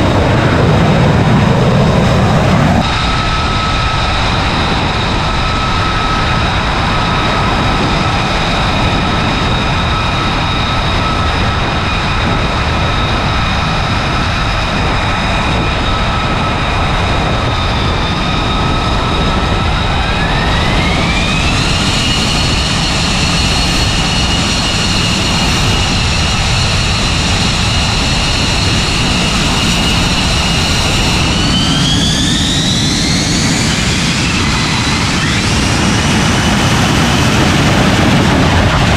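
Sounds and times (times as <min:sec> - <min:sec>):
jet engine rush and whine: 0:00.0 - 0:38.9.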